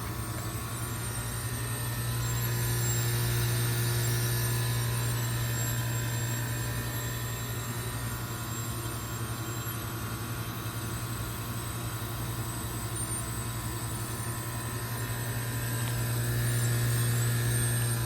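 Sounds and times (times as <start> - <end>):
heat pump compressor hum: 0.0 - 18.0.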